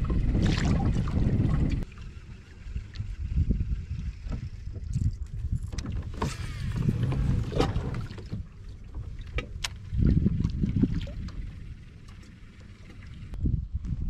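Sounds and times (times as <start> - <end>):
water sloshing against kayak: 0.0 - 13.4
wind buffeting microphone: 0.0 - 14.0.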